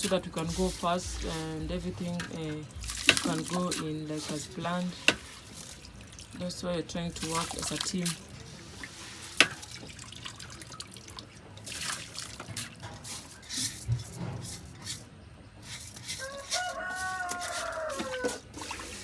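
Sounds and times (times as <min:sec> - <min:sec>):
water dripping and trickling: 0:00.0 - 0:19.0.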